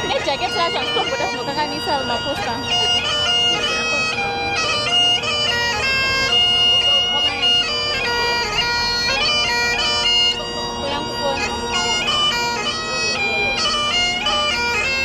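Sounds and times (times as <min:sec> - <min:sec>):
bagpipes playing a tune: 0:00.0 - 0:15.0.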